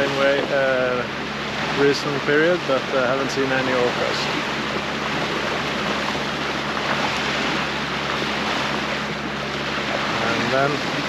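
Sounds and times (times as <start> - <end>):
rushing water: 0.0 - 11.0
wind gusts on microphone: 0.0 - 11.0.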